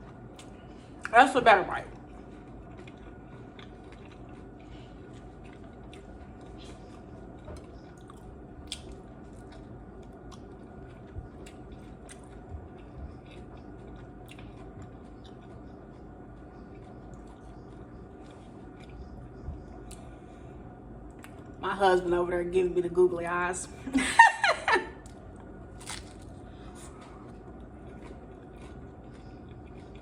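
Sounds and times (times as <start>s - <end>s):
chewing crunchy tortilla shells: 0.0s - 22.1s, 23.7s - 30.0s
steady background hum: 0.0s - 30.0s.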